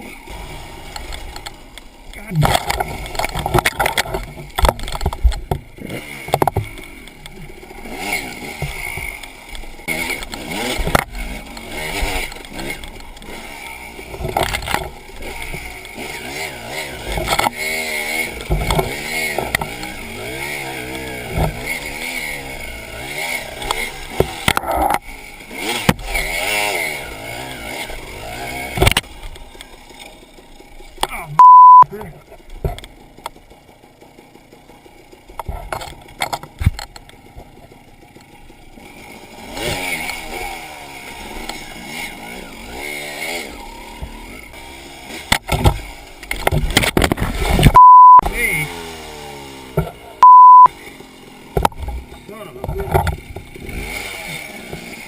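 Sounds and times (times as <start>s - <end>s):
dirt bike engine revving: 0.0s - 31.9s, 32.8s - 55.0s.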